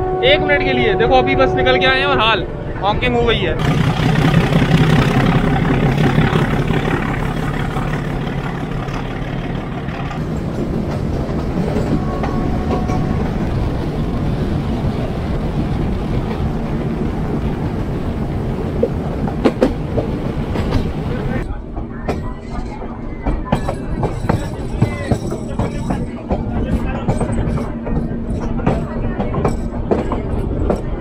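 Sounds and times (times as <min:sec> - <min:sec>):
train wheels clickety-clack: 0:03.6 - 0:31.0.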